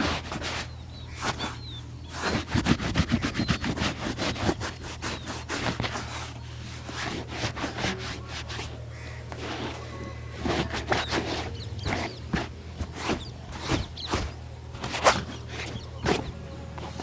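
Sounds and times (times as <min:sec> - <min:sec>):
brush strokes on a shoe: 0:00.0 - 0:17.0
steady low hum: 0:00.0 - 0:17.0.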